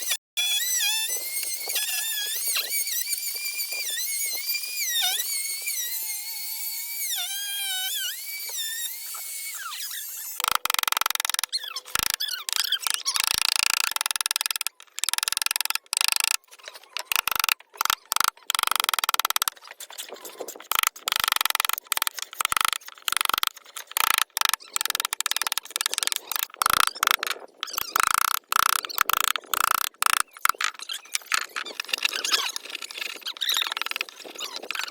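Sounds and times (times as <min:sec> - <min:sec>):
rotary carving tool whining: 0:00.0 - 0:34.9.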